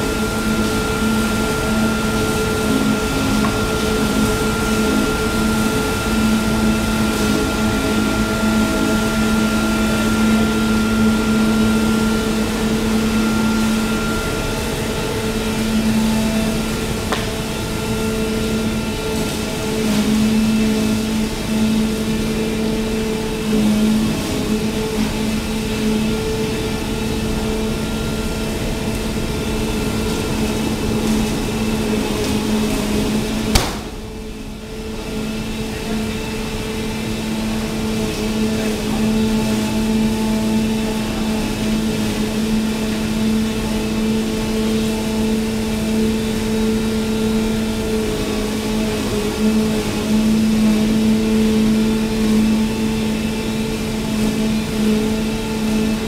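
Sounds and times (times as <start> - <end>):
machinery humming: 0.0 - 56.0.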